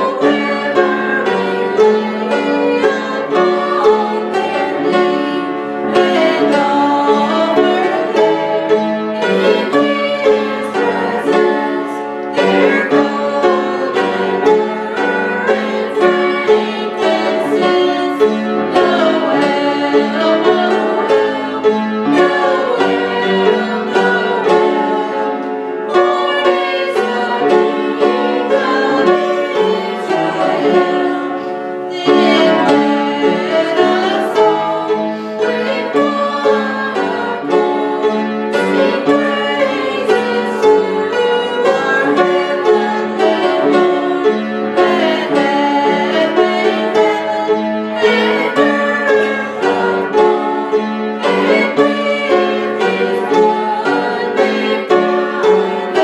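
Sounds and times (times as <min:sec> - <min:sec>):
choir singing: 0:00.0 - 0:56.0
piano: 0:00.0 - 0:56.0
strings: 0:00.0 - 0:56.0.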